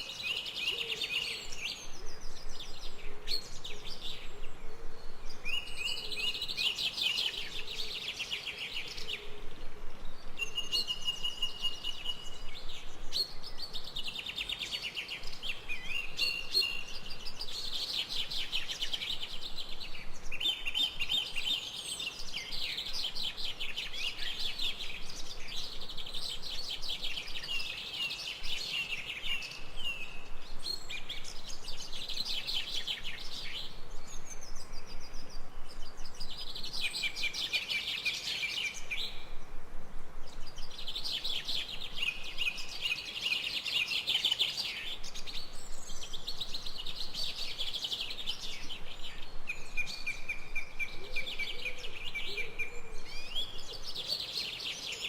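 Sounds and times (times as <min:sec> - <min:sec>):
faint background hiss: 0:00.0 - 0:55.0.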